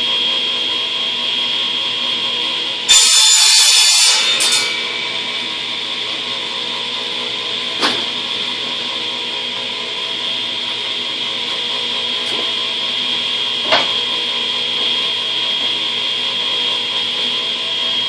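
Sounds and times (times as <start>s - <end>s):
machine humming with high whine: 0.0s - 18.0s.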